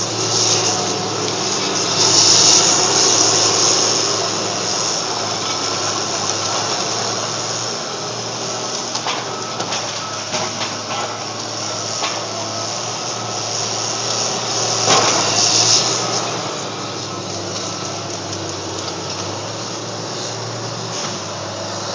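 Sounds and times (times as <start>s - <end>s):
bulldozer diesel engine under load: 0.0s - 21.9s.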